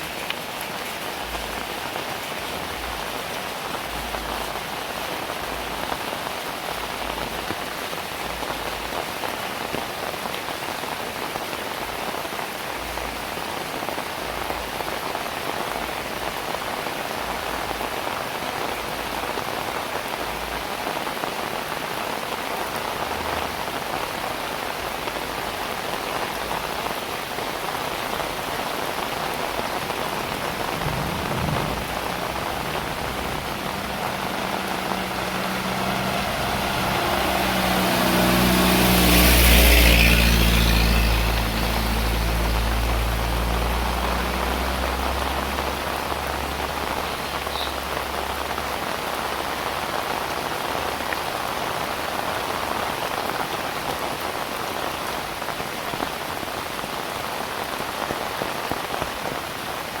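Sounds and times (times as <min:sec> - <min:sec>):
heavy rain falling: 0:00.0 - 1:00.0
vehicle passing on wet road: 0:00.0 - 1:00.0.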